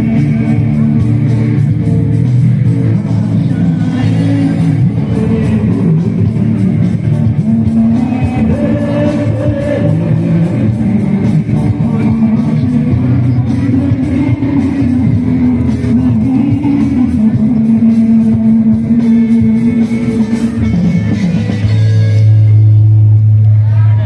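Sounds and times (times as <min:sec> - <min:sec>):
man singing into microphone: 0:00.0 - 0:20.8
amplified band music: 0:00.0 - 0:23.4.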